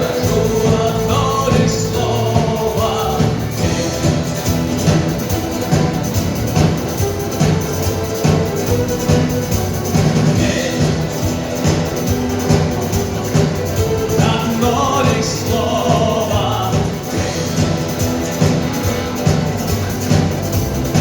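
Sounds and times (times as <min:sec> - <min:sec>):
bass: 0:00.0 - 0:21.0
guitars: 0:00.0 - 0:21.0
steady drum beat: 0:00.0 - 0:21.0.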